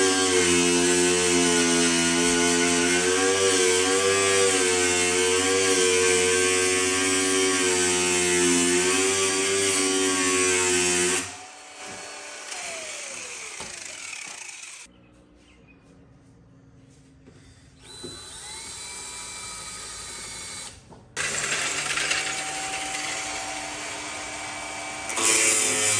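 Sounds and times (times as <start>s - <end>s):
power tool motor whining: 0.0s - 14.9s, 17.8s - 25.9s.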